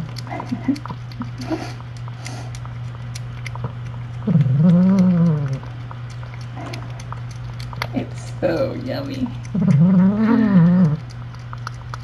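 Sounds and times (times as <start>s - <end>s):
cat chewing and lapping food: 0.0s - 12.0s
steady low hum: 0.0s - 12.0s.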